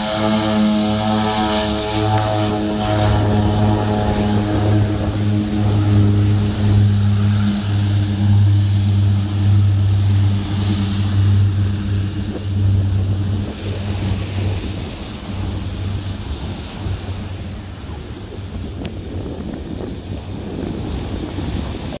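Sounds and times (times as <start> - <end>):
propeller plane drone: 0.0 - 22.0
wind on microphone: 0.0 - 22.0.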